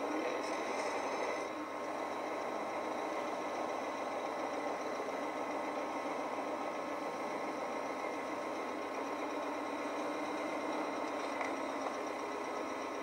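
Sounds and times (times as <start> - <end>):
diesel engine idling through speakers: 0.0 - 13.0.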